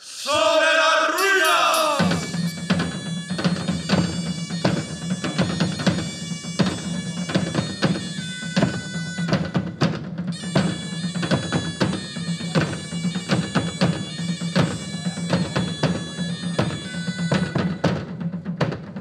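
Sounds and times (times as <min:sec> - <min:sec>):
drums beating: 0:00.3 - 0:19.0
bagpipe melody with drone: 0:01.5 - 0:18.1.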